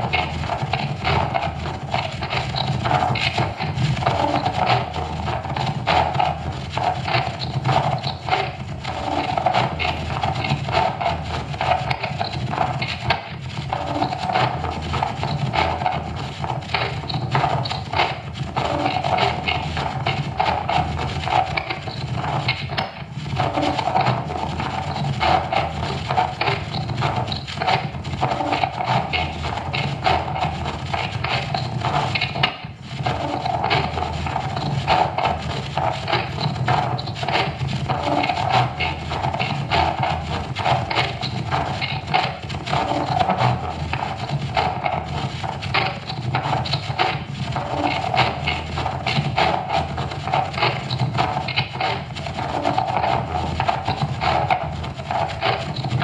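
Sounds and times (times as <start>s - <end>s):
experimental noise music with rapid clicks: 0.0s - 56.0s.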